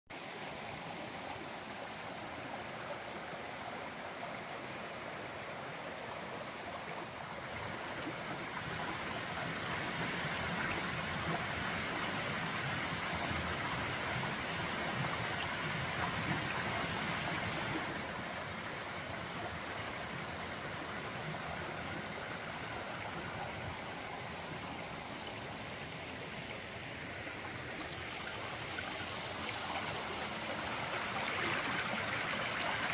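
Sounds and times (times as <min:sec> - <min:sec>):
creek flowing over stones: 0:00.1 - 0:32.9.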